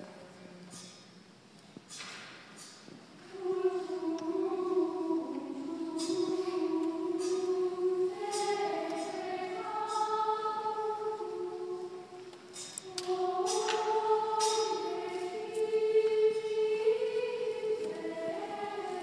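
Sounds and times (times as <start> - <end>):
choir chanting long notes: 3.3 - 19.0.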